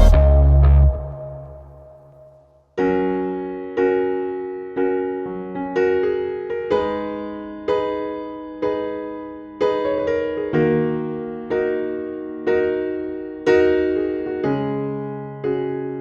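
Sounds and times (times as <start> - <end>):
slow calm piano chords: 2.8 - 16.0.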